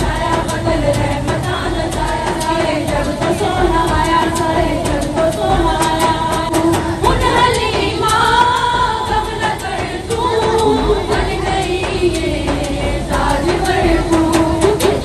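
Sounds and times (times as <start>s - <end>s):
sharp ticking beat: 0.0s - 15.0s
women singing devotional chant: 0.0s - 15.0s.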